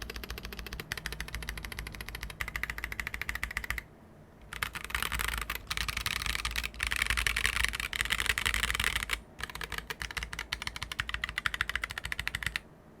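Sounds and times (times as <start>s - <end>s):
mechanical keyboard key clacks: 0.0s - 3.8s, 4.5s - 12.6s.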